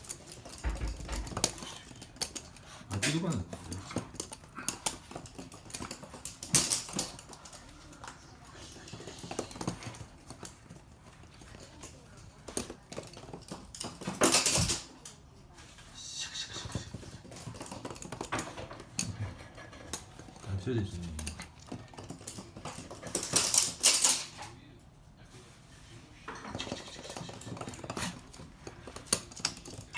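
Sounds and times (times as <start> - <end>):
dog claws clicking on hard floor: 0.0 - 15.3, 16.6 - 24.6, 26.3 - 29.9.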